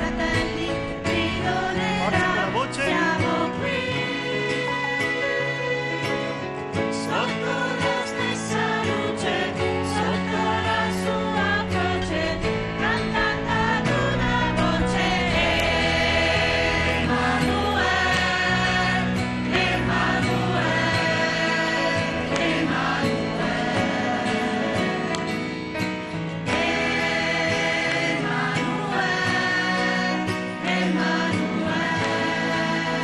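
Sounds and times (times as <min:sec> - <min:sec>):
choir singing: 0:00.0 - 0:33.0.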